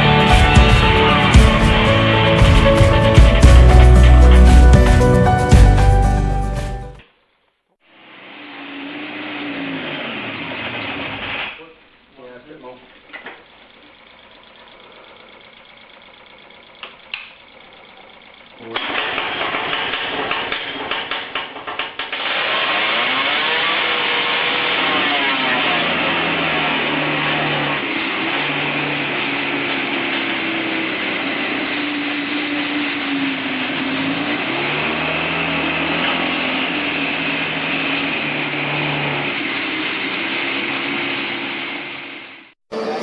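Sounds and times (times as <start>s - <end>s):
engine running: 0.0s - 7.0s, 7.9s - 43.0s.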